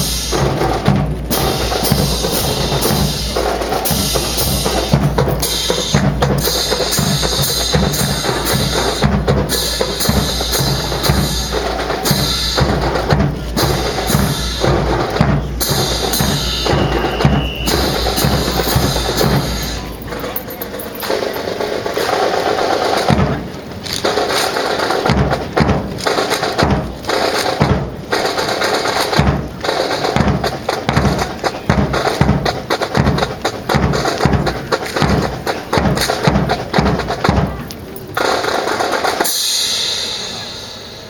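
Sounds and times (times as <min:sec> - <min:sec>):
marching drum cadence: 0:00.0 - 0:41.0.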